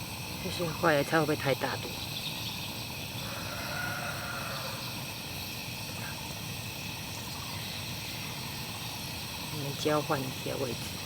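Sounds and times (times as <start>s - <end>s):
high-pitched insect drone: 0.0s - 11.0s
steady background hiss: 0.0s - 11.0s.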